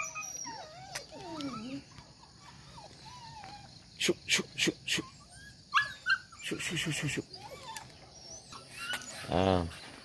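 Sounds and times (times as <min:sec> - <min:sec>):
dogs yipping and yelping: 0:00.0 - 0:04.0, 0:04.9 - 0:10.0.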